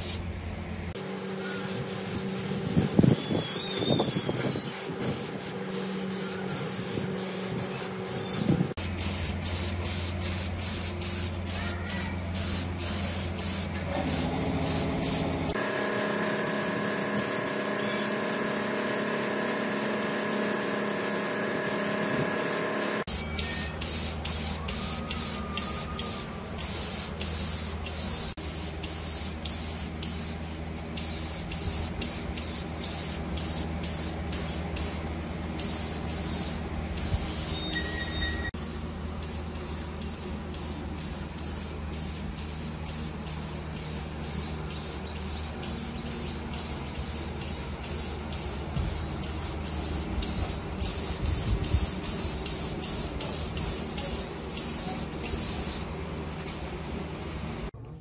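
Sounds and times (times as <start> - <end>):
spray paint hissing: 0.0 - 0.2, 0.9 - 55.9.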